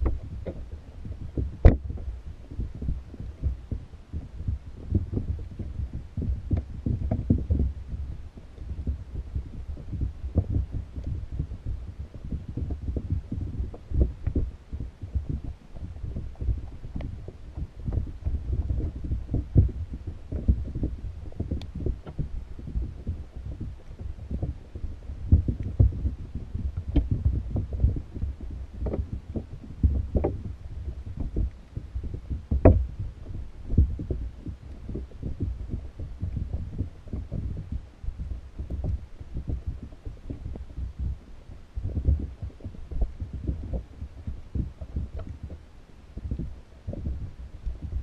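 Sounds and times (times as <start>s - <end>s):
muffled underwater thumps: 0.0s - 48.0s
sharp underwater clicks: 0.0s - 48.0s.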